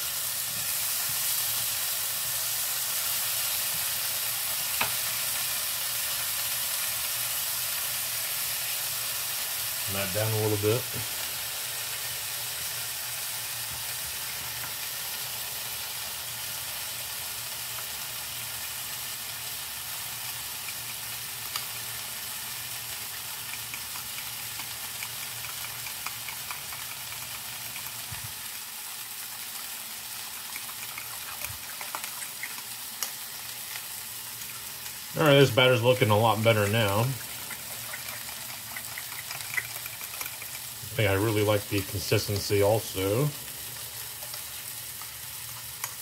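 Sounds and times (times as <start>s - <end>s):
sausage sizzling in a frying pan: 0.0s - 46.0s.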